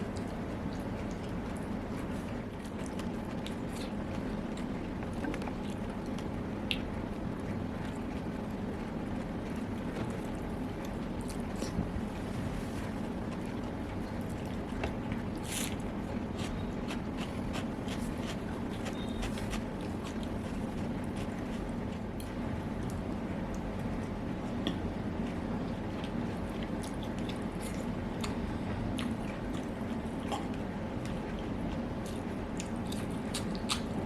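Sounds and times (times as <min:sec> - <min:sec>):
person chewing food: 0:00.0 - 0:06.9, 0:09.1 - 0:34.0.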